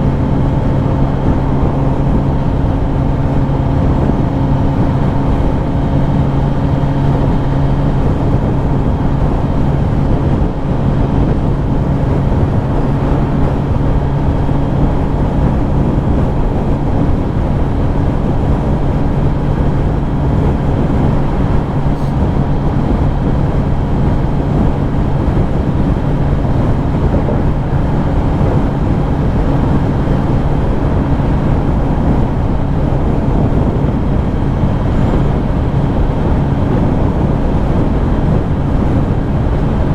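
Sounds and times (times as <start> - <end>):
motorcycle engine cruising: 0.0 - 39.9
steady rushing noise: 0.0 - 39.9.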